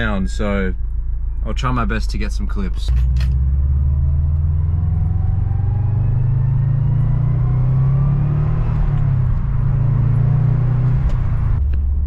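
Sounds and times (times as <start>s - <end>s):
faint rising whine: 0.0s - 11.7s
car engine under load: 0.8s - 12.0s.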